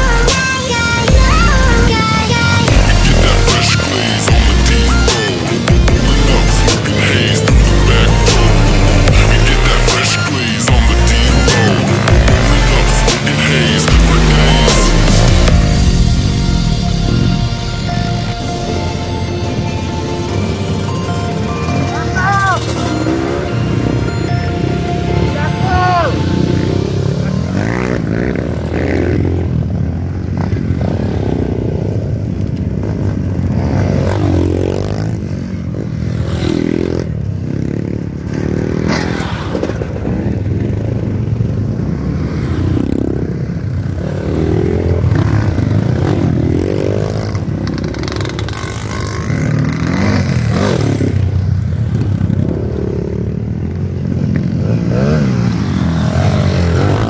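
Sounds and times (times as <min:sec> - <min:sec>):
dirt bikes riding past: 0:00.0 - 0:57.0.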